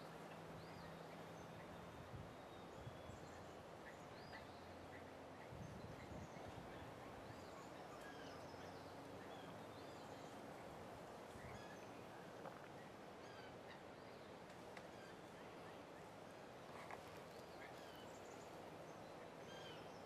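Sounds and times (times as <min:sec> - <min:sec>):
small birds chirping: 0:00.0 - 0:20.0
steady background hiss: 0:00.0 - 0:20.0.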